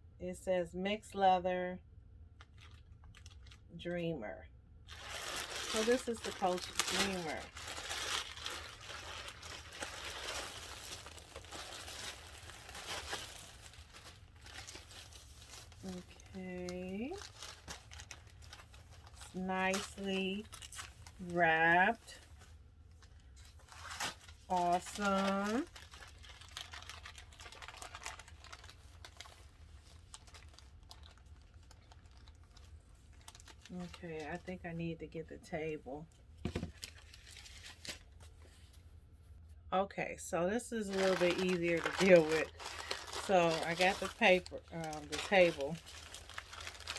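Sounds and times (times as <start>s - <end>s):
packing paper crinkling: 2.4s - 3.6s, 4.9s - 34.5s, 36.4s - 38.8s, 40.8s - 46.9s.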